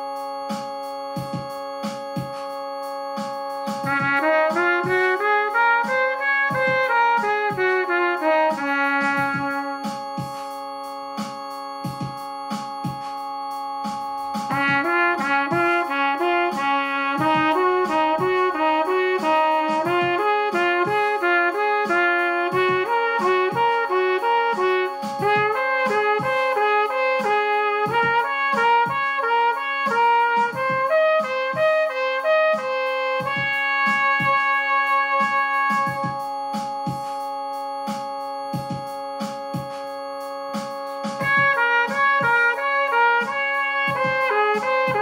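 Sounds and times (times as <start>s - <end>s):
keyboard accompaniment: 0.0s - 45.0s
trumpet playing a scale: 0.0s - 45.0s.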